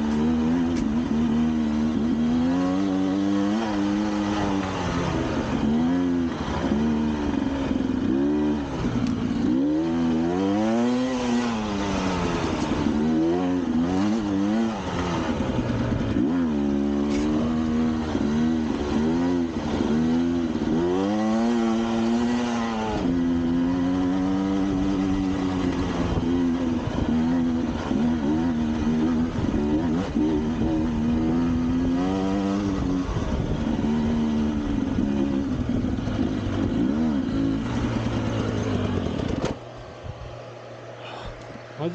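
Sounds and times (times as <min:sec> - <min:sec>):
engine revving under load: 0:00.0 - 0:41.9.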